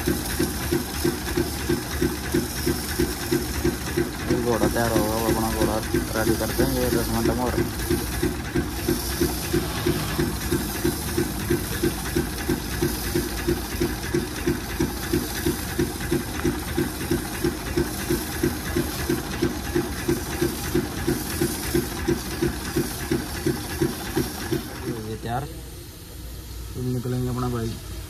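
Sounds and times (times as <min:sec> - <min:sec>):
pressure washer pump beating: 0:00.0 - 0:25.6
water jet hissing: 0:00.0 - 0:28.0.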